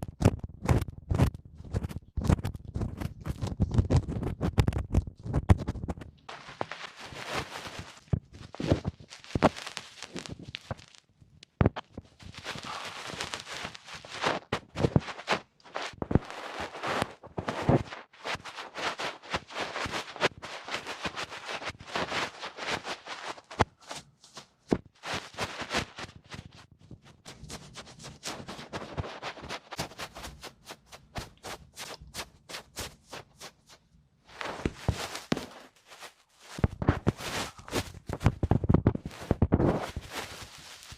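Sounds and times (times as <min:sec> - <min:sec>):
scratching and rubbing on microphone: 0:00.0 - 0:40.9.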